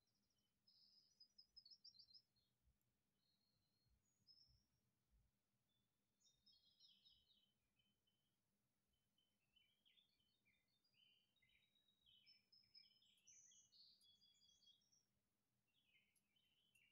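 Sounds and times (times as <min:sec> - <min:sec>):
faint birdsong on television: 0:00.0 - 0:16.9.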